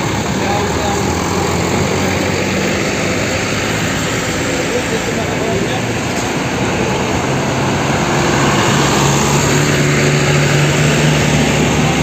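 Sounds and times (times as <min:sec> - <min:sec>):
diesel bus engines passing: 0:00.0 - 0:12.0.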